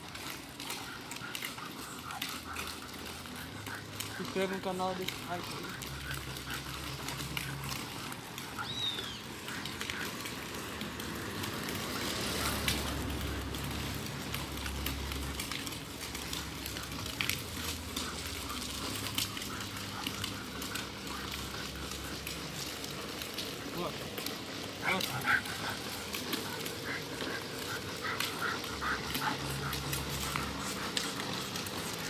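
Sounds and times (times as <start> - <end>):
low street rumble: 0.0 - 32.0.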